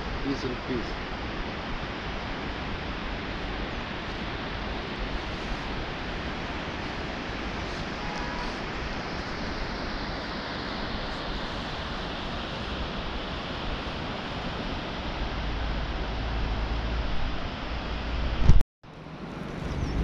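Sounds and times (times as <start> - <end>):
river rushing over rocks: 0.0 - 18.4.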